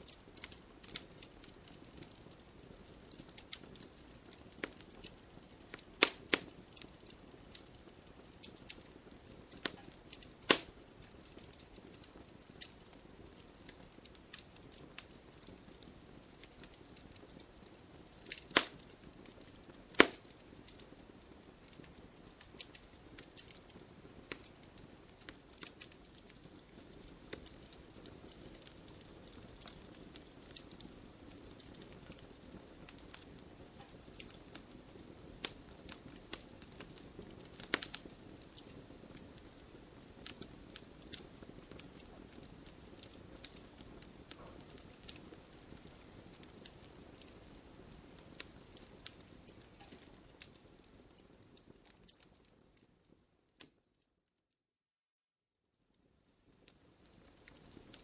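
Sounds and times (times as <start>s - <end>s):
wood fire crackling: 0.0s - 54.0s, 55.9s - 58.0s.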